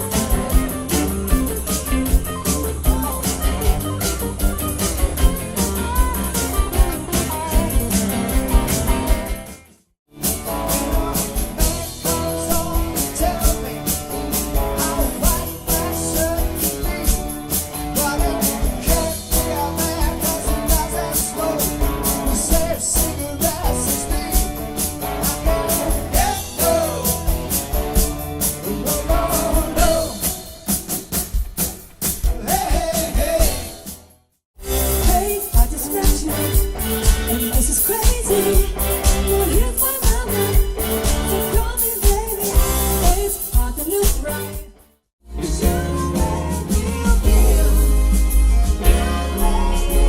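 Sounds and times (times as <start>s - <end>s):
rock and roll music: 0.0s - 50.0s.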